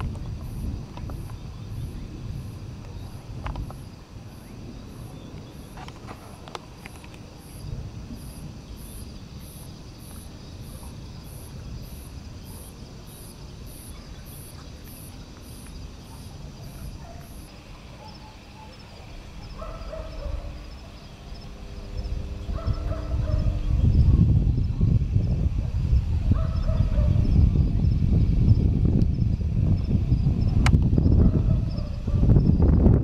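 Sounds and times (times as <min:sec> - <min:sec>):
insect chirping in high pulses: 0:00.0 - 0:33.0
steady low noise: 0:00.0 - 0:33.0.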